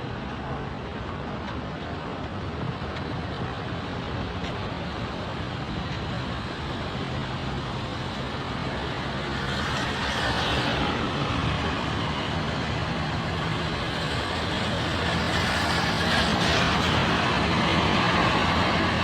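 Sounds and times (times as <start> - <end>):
road noise: 0.0 - 19.0
traffic engine rumble: 0.0 - 19.0.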